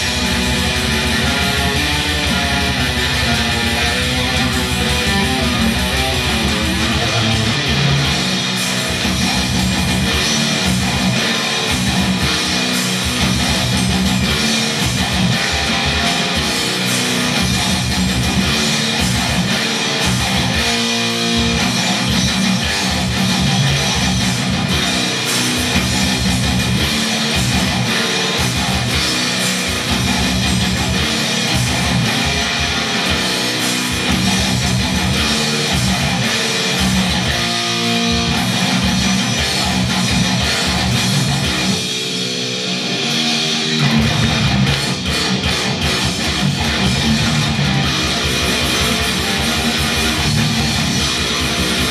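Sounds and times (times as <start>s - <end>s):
distorted electric guitar riffs: 0.0s - 51.9s.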